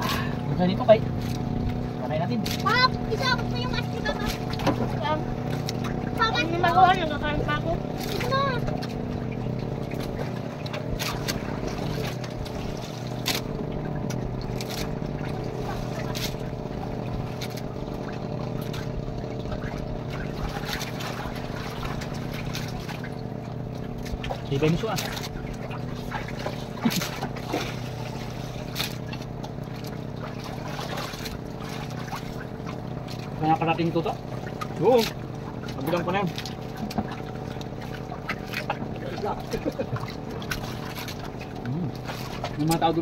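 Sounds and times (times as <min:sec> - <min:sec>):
boat engine humming: 0:00.0 - 0:43.0
water noise: 0:00.0 - 0:43.0.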